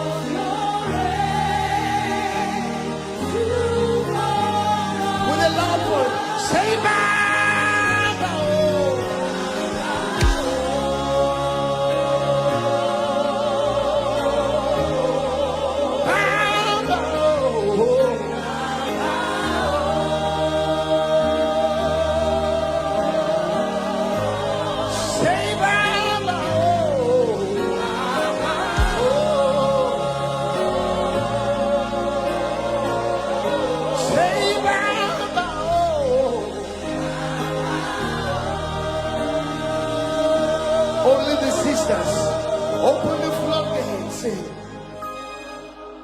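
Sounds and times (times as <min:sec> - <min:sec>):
choir singing gospel: 0:00.0 - 0:46.0.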